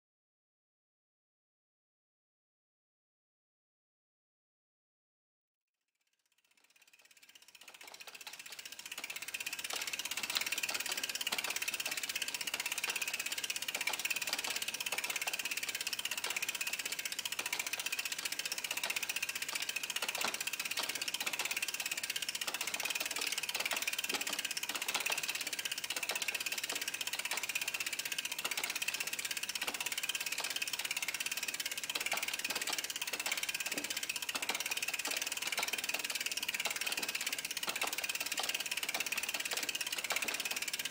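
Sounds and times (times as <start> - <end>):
bicycle freewheel ticking: 5.9 - 40.9.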